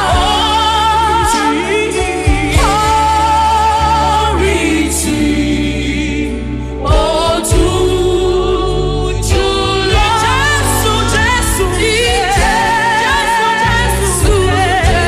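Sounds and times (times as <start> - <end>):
voices singing gospel: 0.0 - 15.0.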